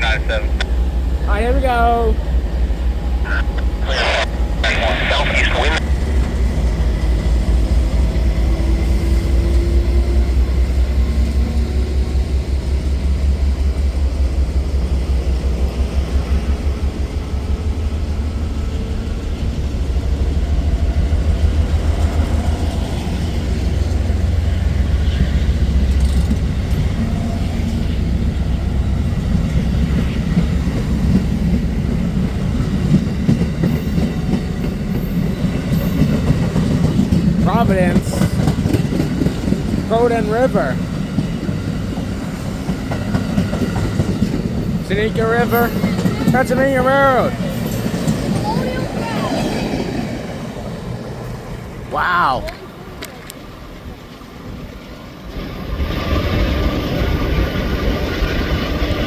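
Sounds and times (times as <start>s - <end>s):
train wheels rumbling on rails: 0.0s - 51.9s, 52.5s - 59.0s.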